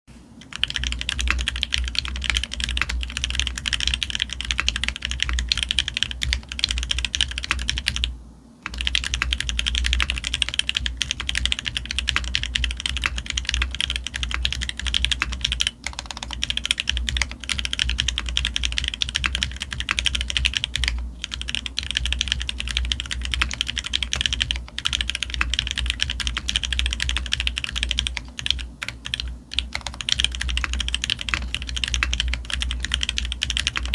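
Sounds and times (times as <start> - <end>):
rapid mechanical keyboard typing: 0.4 - 33.9.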